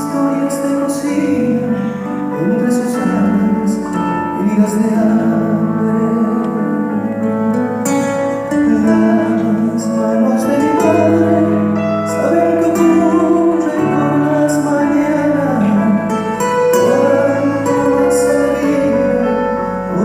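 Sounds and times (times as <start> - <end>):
band playing slow folk song: 0.0 - 20.0.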